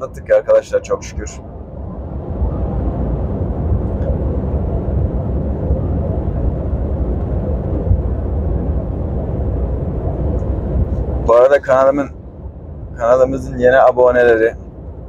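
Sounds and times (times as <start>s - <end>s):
diesel engine rumbling: 0.0s - 15.0s
road noise: 0.0s - 15.0s.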